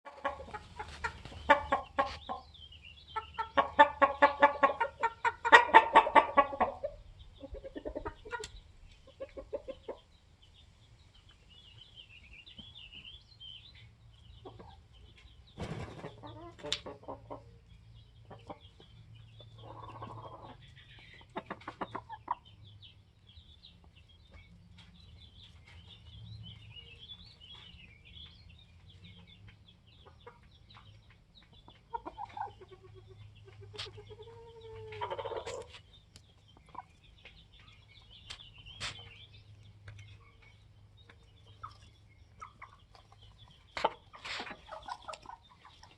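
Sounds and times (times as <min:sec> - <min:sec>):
chickens clucking: 0:00.1 - 0:45.9.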